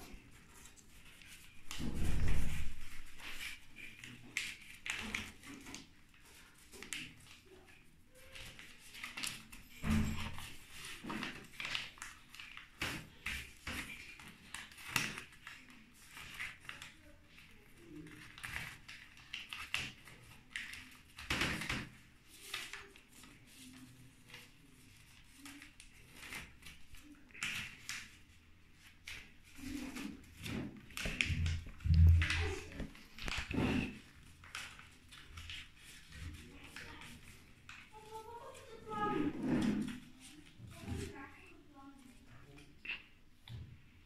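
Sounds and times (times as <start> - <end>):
paper rustling and crinkling: 0.0 - 43.8.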